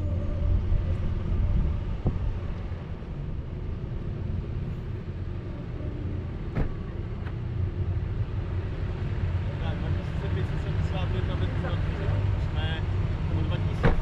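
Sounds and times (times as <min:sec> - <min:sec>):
low road rumble: 0:00.0 - 0:14.0
vehicle engine running: 0:00.0 - 0:14.0.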